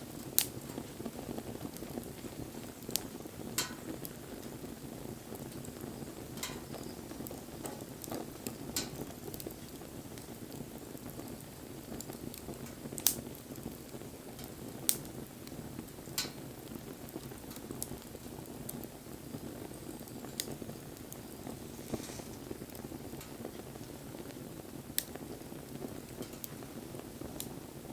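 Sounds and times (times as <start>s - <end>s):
campfire burning: 0.0s - 27.9s
fire crackles and pops: 0.0s - 27.9s.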